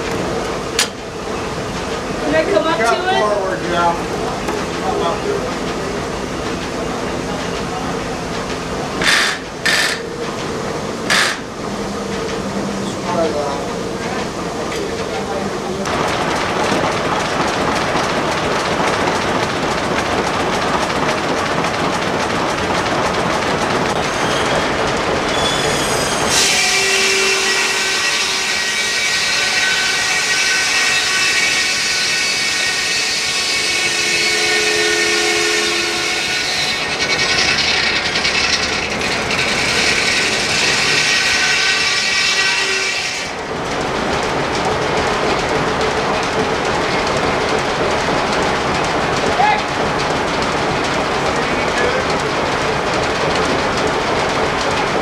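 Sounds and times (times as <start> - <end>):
sawmill machinery clatter: 0.0 - 55.0.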